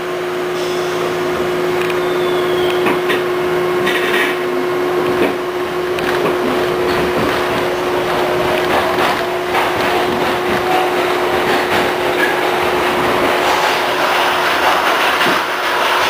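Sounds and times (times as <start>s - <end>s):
subway train hum: 0.0s - 16.0s
train cars knocking and clattering: 0.5s - 16.0s.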